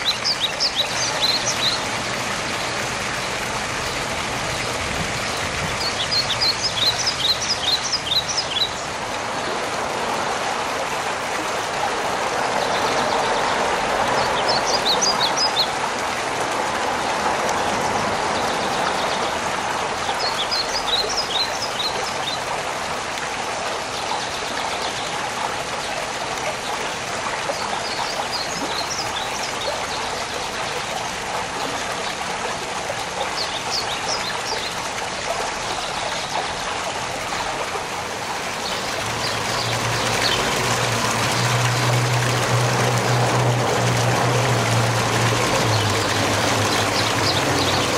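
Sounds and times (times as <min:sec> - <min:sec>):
waterfall pouring over rocks: 0:00.0 - 0:47.9.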